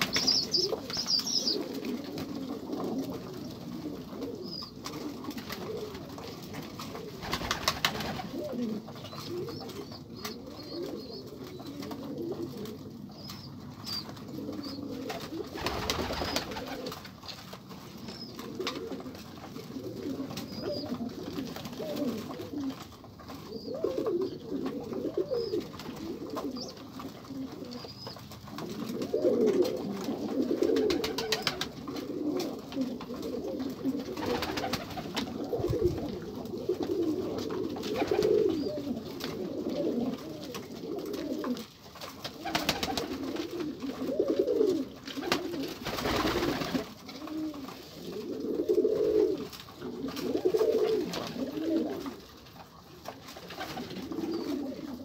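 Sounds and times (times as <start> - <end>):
wings flapping: 0.0 - 54.9
pigeons cooing: 0.0 - 55.0.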